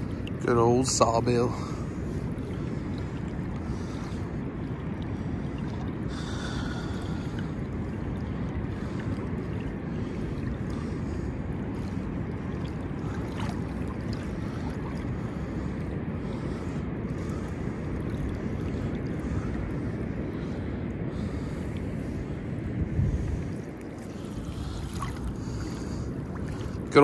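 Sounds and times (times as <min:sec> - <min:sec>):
water washing: 0:00.0 - 0:22.2, 0:23.1 - 0:27.0
wind buffeting microphone: 0:00.0 - 0:27.0.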